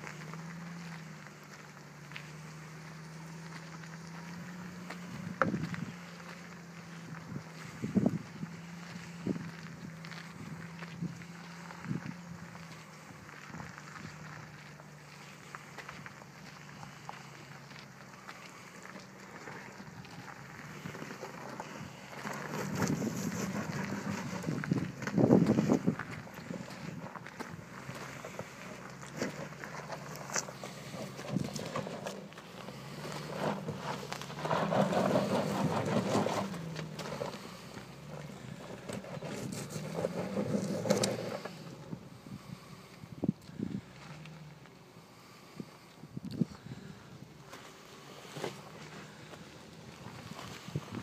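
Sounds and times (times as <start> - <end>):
footsteps crunching on dirt trail: 0.0 - 51.0
suv engine running low: 0.0 - 51.0.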